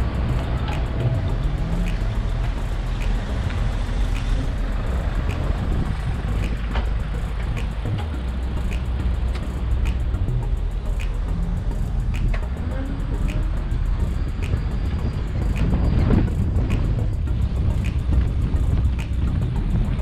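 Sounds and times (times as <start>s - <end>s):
electric bicycle ride rumble: 0.0s - 20.0s.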